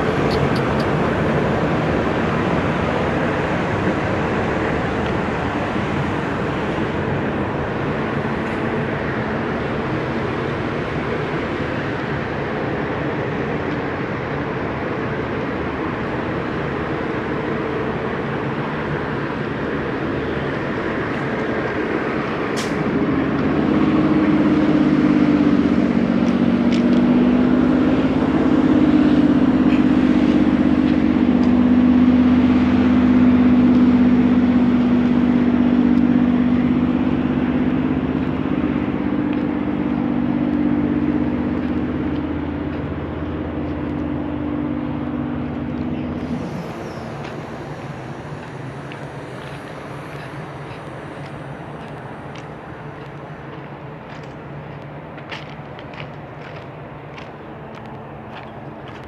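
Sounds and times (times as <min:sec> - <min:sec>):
diesel locomotive engine humming: 0:00.0 - 0:59.0.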